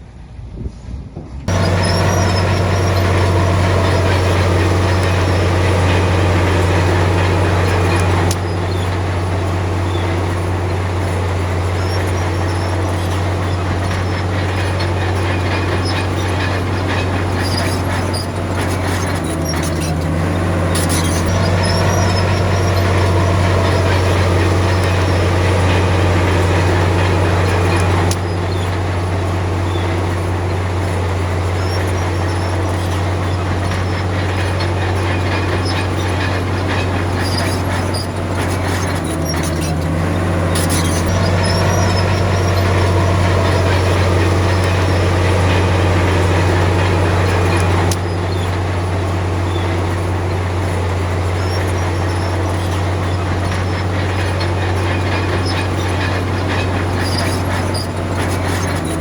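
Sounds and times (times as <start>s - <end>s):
diesel engine droning: 1.4s - 59.0s
metallic clatter: 1.5s - 59.0s.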